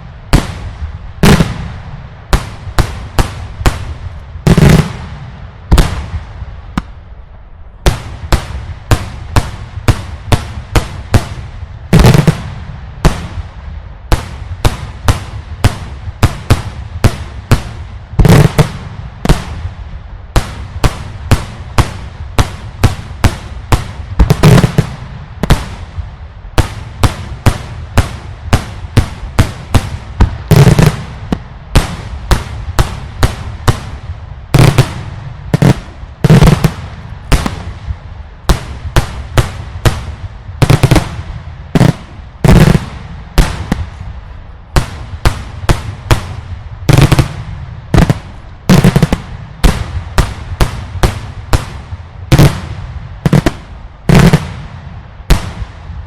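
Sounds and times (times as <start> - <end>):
deep fireworks booms: 0.0 - 56.0
fireworks bangs: 0.0 - 56.0.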